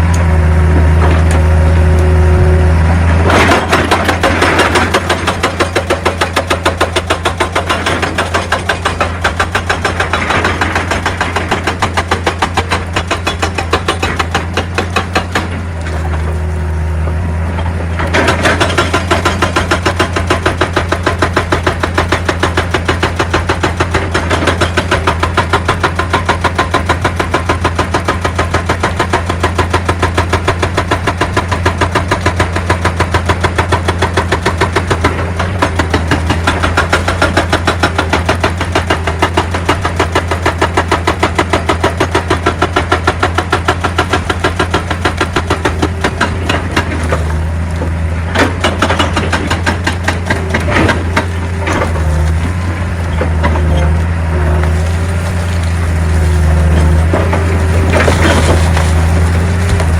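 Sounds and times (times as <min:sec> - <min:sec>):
diesel engine running: 0:00.0 - 0:59.9
hydraulic rock breaker hammering: 0:00.0 - 0:59.9.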